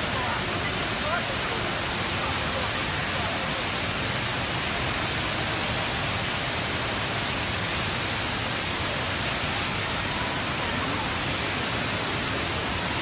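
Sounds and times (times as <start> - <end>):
indoor waterfall rushing: 0.0 - 13.0.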